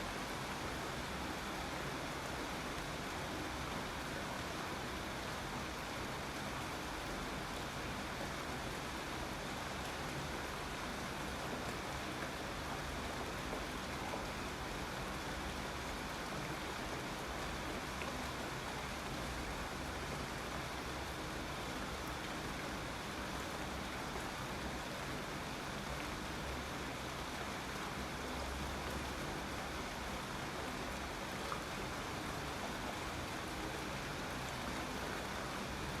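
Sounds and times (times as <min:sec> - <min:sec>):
steady rain on surfaces: 0:00.0 - 0:36.0.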